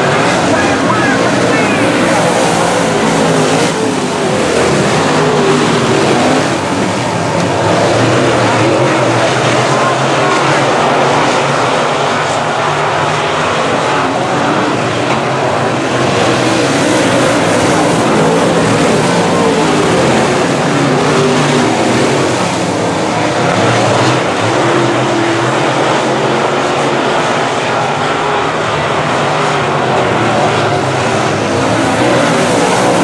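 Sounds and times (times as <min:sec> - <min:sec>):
race car engines: 0:00.0 - 0:33.0.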